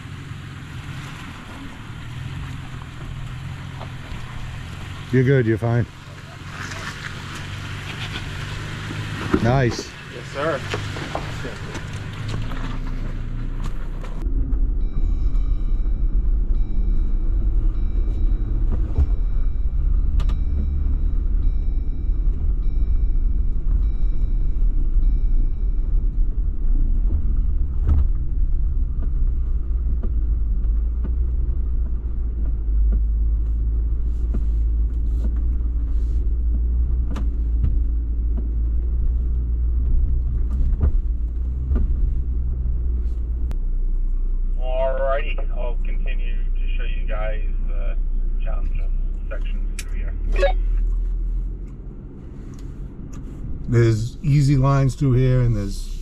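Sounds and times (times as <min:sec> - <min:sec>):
vehicle engine low drone: 0:00.0 - 0:56.0.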